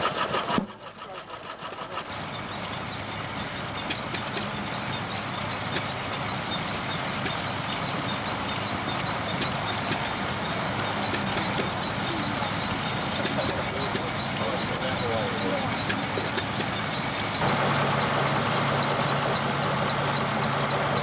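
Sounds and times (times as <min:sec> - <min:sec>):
threshing machine clattering: 0:00.0 - 0:21.0.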